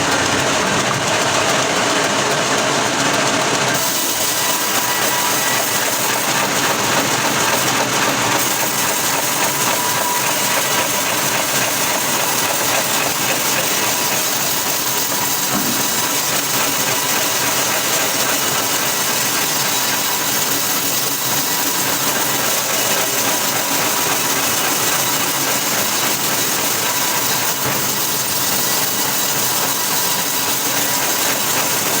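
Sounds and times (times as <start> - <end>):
machinery hissing steadily: 0.0 - 32.0.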